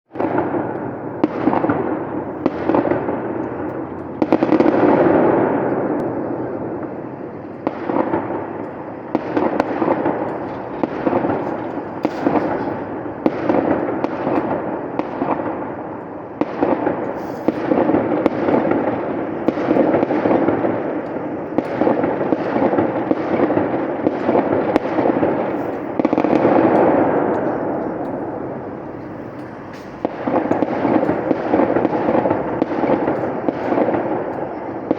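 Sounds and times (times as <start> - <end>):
firework shells bursting: 0.1 - 34.9.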